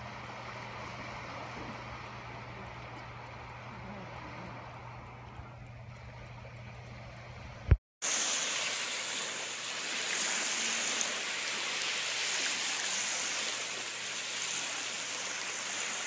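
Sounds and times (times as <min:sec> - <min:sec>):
surf on sandy shore: 0:00.0 - 0:05.5, 0:06.2 - 0:16.0.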